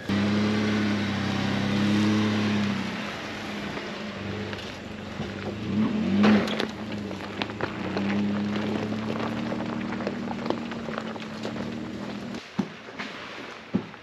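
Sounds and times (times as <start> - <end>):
pickup engine revving: 0.0 - 12.4
tyres crunching on gravel: 0.0 - 14.0.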